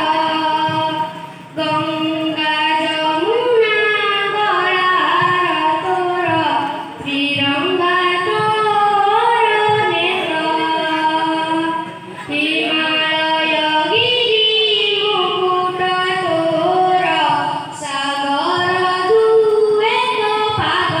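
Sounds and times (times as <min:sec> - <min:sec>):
child singing into a microphone: 0:00.0 - 0:21.0.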